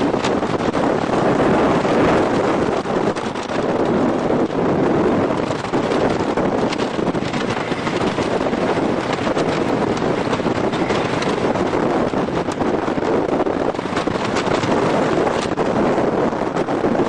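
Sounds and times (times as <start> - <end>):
roller coaster rumbling on track: 0.0 - 17.0
wind buffeting microphone: 0.0 - 17.0.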